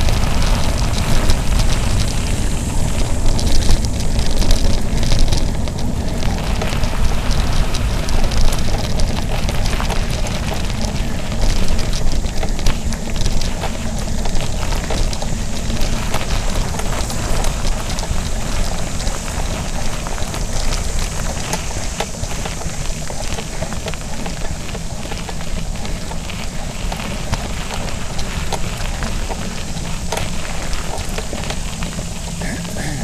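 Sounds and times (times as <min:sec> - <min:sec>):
bike tyres crunching on gravel: 0:00.0 - 0:33.0.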